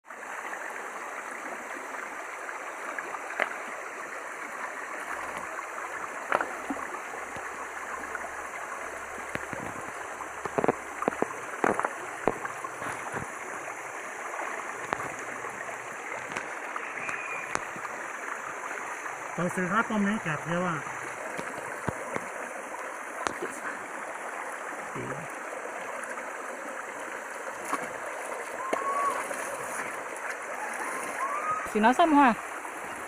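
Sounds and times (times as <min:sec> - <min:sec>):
stream babbling over stones: 0:00.0 - 0:33.0.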